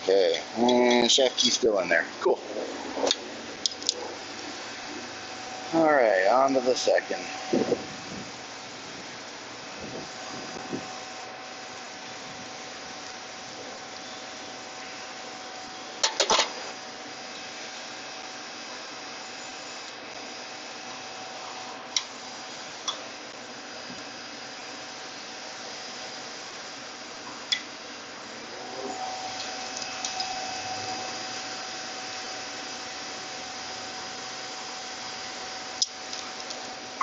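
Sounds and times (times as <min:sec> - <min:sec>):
hvac equipment humming: 0:00.0 - 0:37.0.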